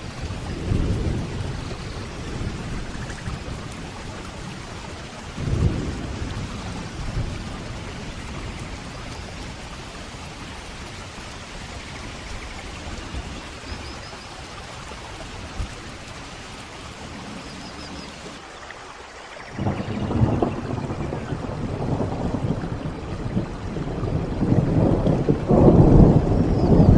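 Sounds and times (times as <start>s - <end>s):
thunder rumble: 0.0s - 18.4s, 19.5s - 26.9s
steady rain falling: 0.0s - 26.9s.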